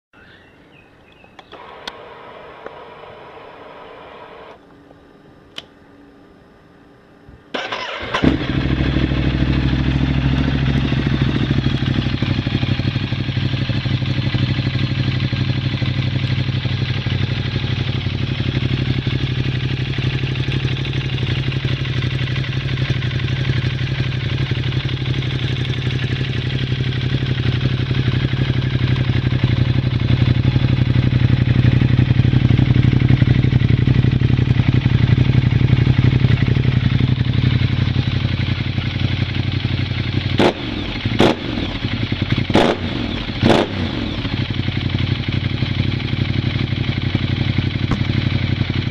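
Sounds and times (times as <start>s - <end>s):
motorcycle engine idling: 7.6s - 48.9s.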